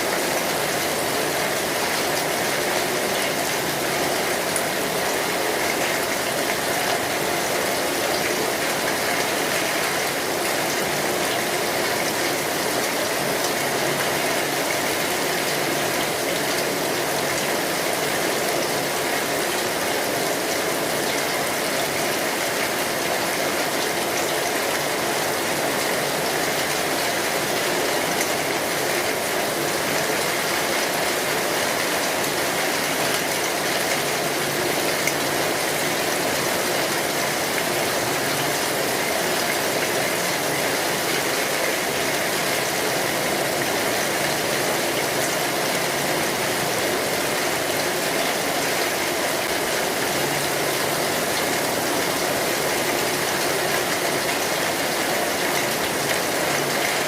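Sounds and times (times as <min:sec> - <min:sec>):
heavy rain on metal roof: 0:00.0 - 0:57.0.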